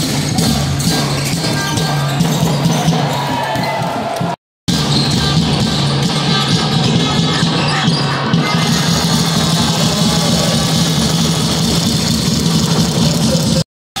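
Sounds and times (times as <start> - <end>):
music in arena: 0.0 - 13.6
crowd noise: 0.0 - 14.0.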